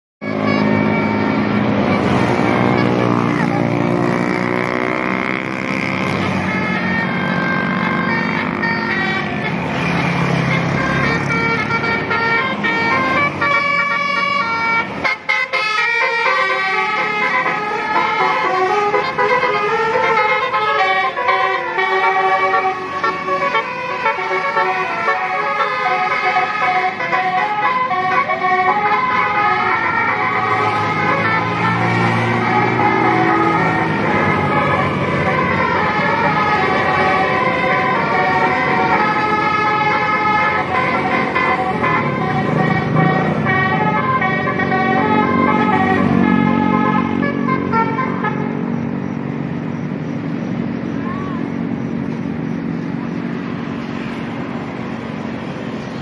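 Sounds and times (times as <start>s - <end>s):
musical vehicle horns: 0.2s - 49.1s.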